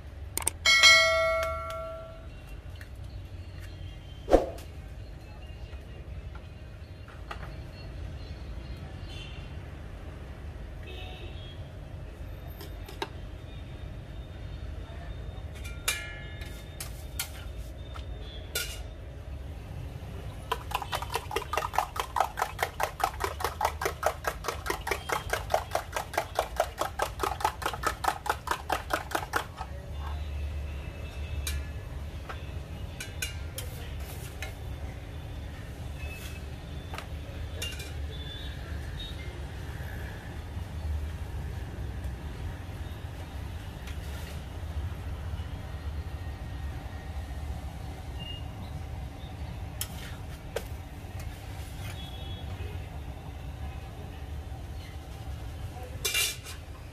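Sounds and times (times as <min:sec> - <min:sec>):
low rumble of traffic: 0:00.0 - 0:56.9.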